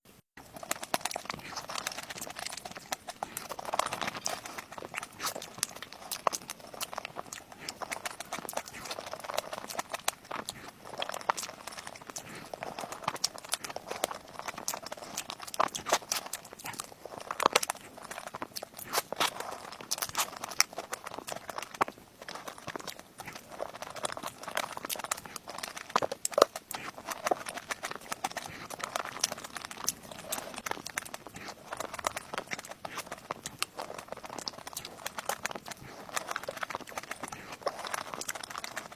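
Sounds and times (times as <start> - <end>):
cake being chewed: 0.2 - 38.9.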